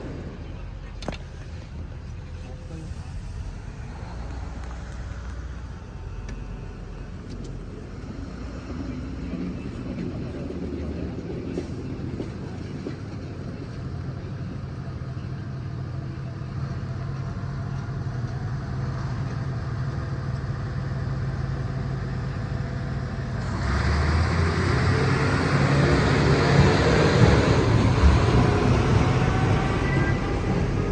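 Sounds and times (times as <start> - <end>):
train rumbling past: 0.0 - 30.9.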